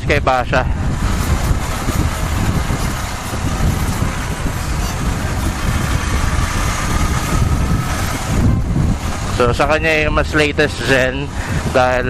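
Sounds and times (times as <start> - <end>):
motorcycle engine droning: 0.0 - 12.0
wind rushing over microphone: 0.0 - 12.0.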